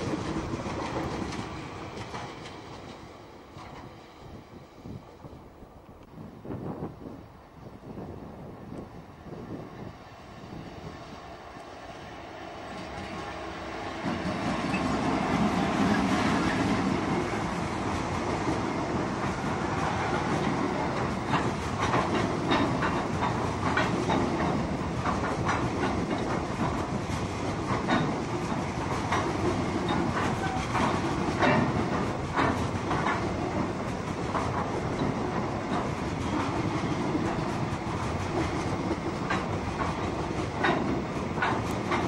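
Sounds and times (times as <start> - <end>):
train wheels clacking on rails: 0.0 - 5.0, 7.9 - 42.0
diesel locomotive engine rumbling: 0.0 - 42.0.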